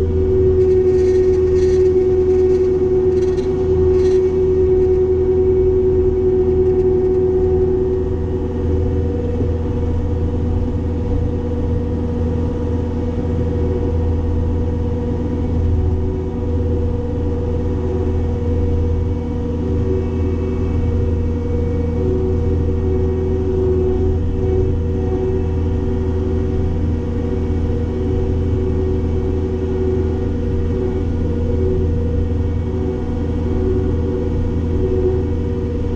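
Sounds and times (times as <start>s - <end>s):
diesel engine drone: 0.0s - 35.9s
hydraulic brush cutter whine: 0.0s - 35.9s.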